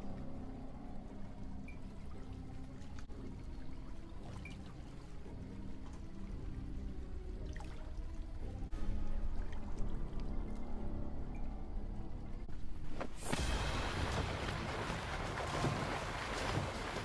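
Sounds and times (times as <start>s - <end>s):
hot tub water bubbling: 0.0s - 10.8s, 13.3s - 17.0s.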